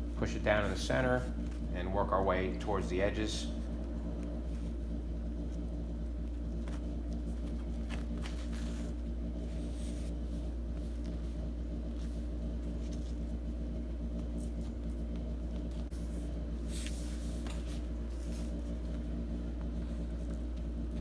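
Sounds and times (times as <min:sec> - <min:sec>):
low machine hum: 0:00.0 - 0:21.0
vinyl rustling under hand: 0:02.4 - 0:21.0.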